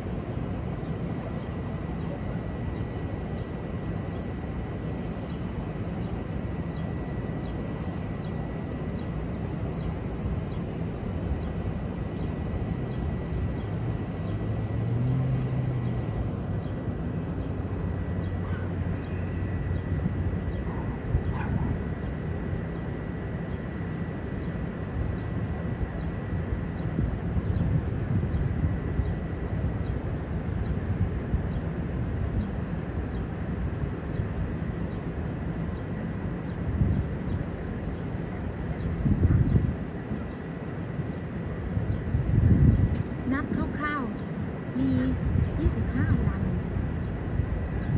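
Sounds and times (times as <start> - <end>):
distant traffic rumble: 0.0 - 47.9
low engine-like hum: 0.0 - 47.9.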